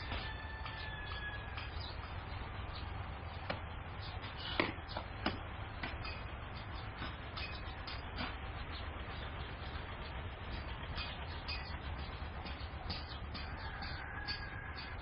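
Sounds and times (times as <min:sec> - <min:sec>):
low outdoor hum: 0:00.0 - 0:15.0.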